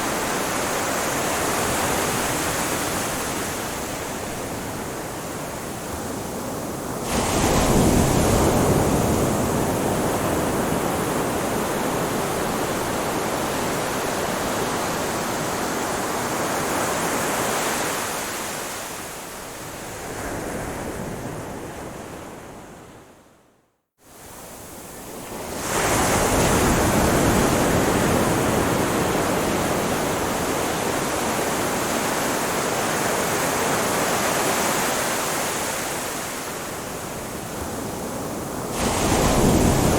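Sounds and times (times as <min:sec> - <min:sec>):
waves breaking on a shore: 0:00.0 - 0:23.1, 0:24.1 - 0:39.9.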